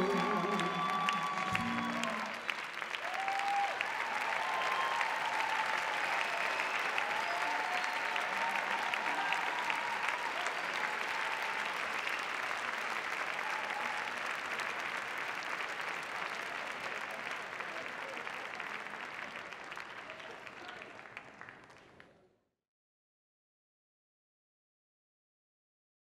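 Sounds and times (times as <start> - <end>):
audience applauding: 0.0 - 22.2.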